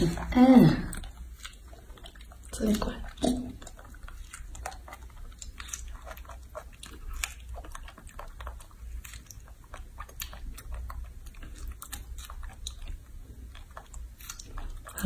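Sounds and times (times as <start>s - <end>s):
monkey chewing wet smacking: 0.0s - 15.0s.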